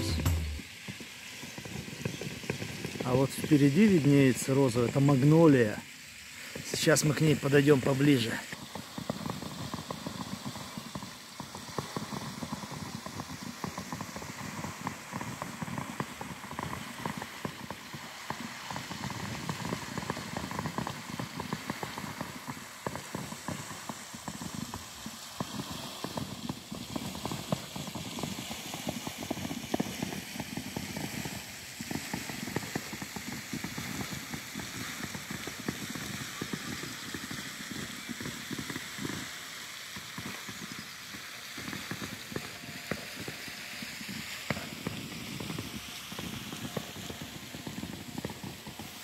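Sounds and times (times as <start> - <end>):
outdoor air hiss: 0.0 - 49.0.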